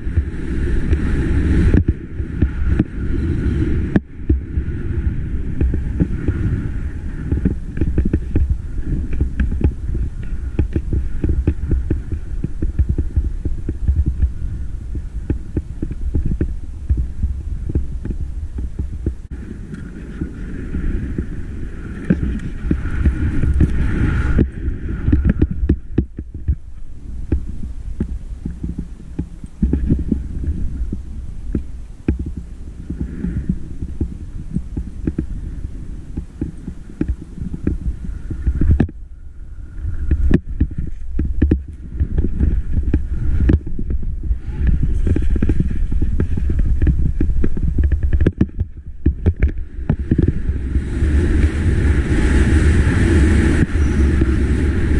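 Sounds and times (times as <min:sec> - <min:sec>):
skis scraping through snow: 0:00.0 - 0:54.9
wind buffeting microphone: 0:00.0 - 0:54.9.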